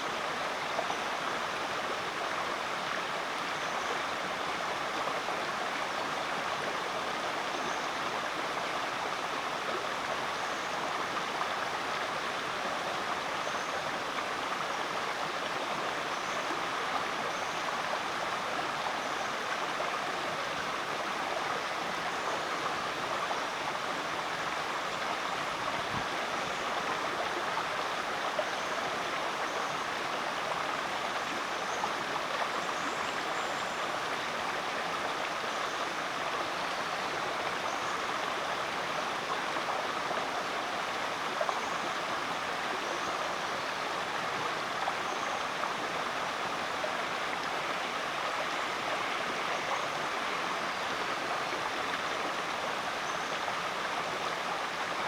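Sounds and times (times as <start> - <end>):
creek water flowing over rocks: 0.0 - 55.0.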